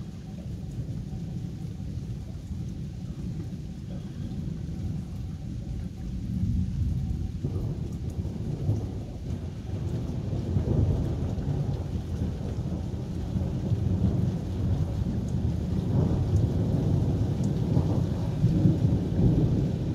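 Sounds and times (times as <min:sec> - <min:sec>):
thunder rumbling: 0:00.6 - 0:19.9.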